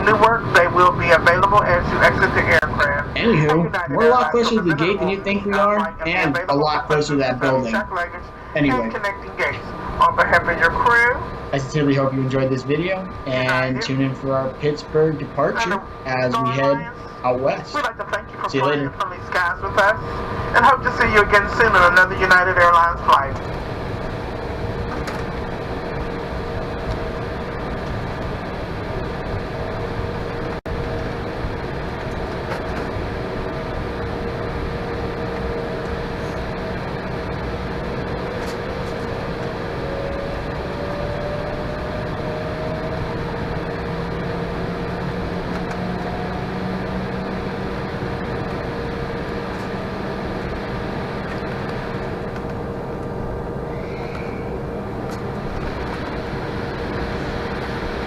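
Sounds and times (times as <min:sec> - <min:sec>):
cabin air: 0:00.0 - 0:17.7, 0:18.3 - 0:40.7, 0:46.4 - 0:58.0
engine tones rising in pitch: 0:00.0 - 0:58.0
jet engine hum: 0:00.0 - 0:58.0.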